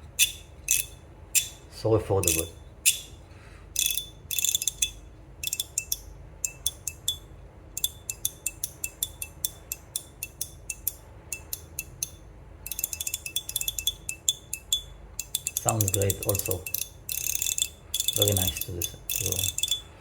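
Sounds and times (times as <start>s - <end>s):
slider fidget clicking: 3.8s - 19.8s.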